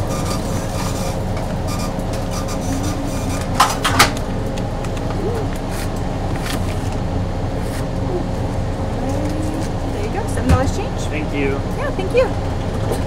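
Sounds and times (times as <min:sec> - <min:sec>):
busy kitchen hum and clatter: 0:00.0 - 0:13.0.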